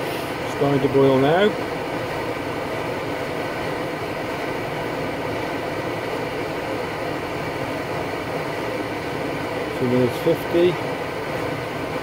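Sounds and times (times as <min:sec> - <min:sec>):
stove burner rushing: 0:00.0 - 0:12.0.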